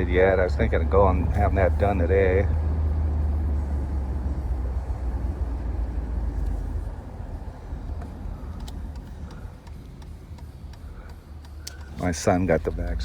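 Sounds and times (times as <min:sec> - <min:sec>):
car exhaust rumble: 0:00.0 - 0:13.0
road and wind noise: 0:00.0 - 0:13.0.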